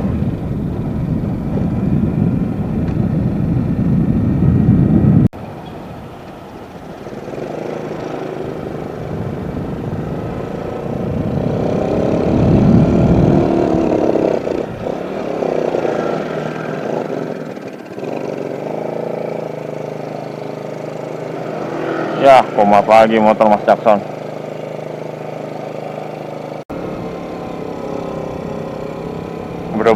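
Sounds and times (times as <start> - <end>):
motorcycle engine under load: 5.4 - 29.9.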